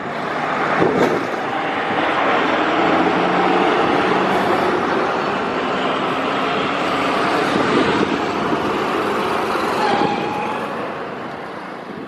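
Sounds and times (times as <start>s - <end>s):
trucks and buses passing: 0.0s - 12.0s.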